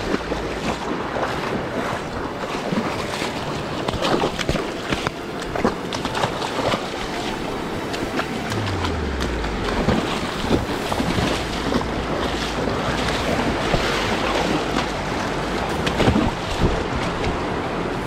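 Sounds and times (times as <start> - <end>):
boots splashing through water: 0.0 - 17.8
river rushing through rapids: 0.0 - 18.0.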